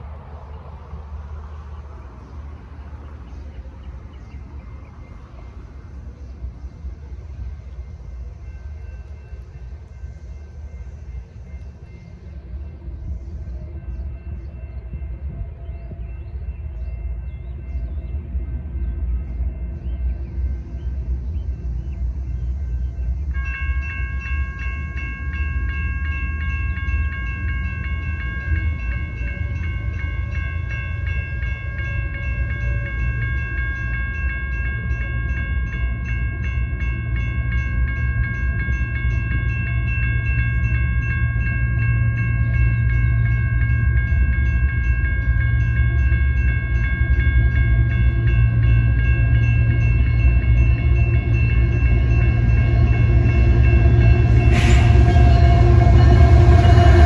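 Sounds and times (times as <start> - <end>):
railroad crossing bell ringing: 0.0 - 57.0
train rumbling: 0.0 - 57.0.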